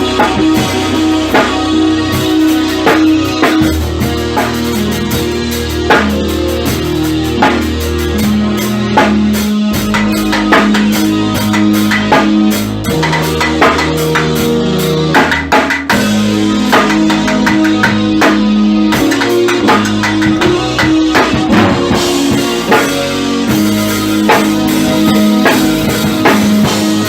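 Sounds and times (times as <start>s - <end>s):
drum kit beat: 0.0s - 27.0s
guitar: 0.0s - 27.0s.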